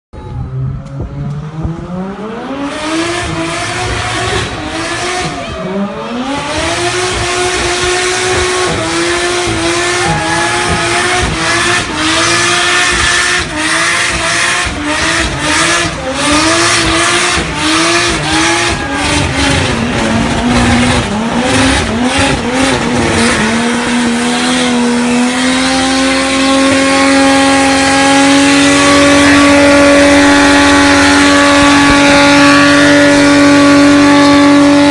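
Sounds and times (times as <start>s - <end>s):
car engine revving hard: 1.0s - 34.9s.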